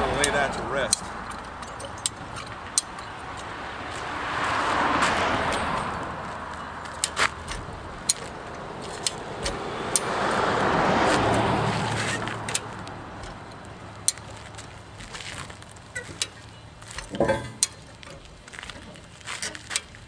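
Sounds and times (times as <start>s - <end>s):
jack clicking: 0.2s - 3.6s, 5.5s - 20.0s.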